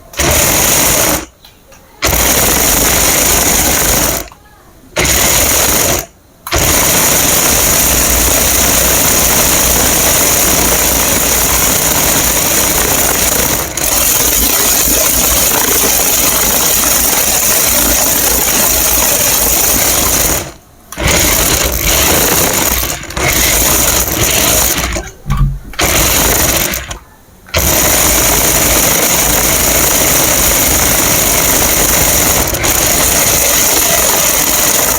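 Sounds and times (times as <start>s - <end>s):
toy car electric motor whirring: 0.0s - 1.3s, 2.0s - 4.3s, 5.0s - 25.2s, 25.8s - 34.9s.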